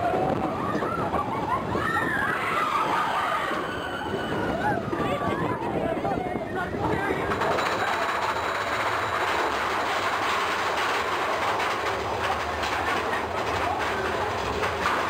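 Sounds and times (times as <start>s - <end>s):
roller coaster cars rattling: 0.0s - 15.0s.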